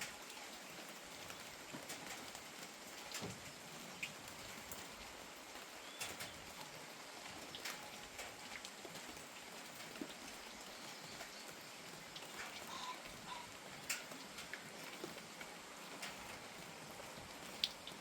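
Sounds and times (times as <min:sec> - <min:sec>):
light rain hiss: 0:00.0 - 0:18.0
raindrops ticking on a surface: 0:00.0 - 0:18.0.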